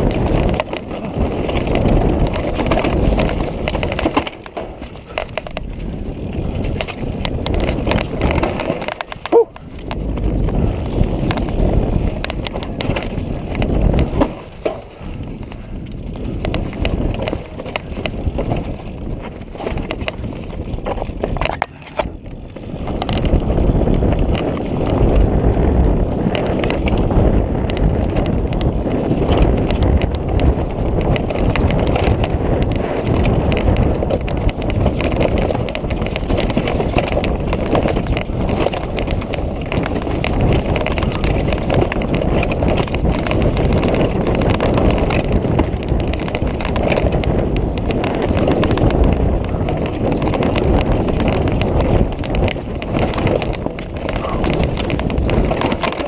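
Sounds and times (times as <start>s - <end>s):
bike clattering over rocks: 0.0s - 56.0s.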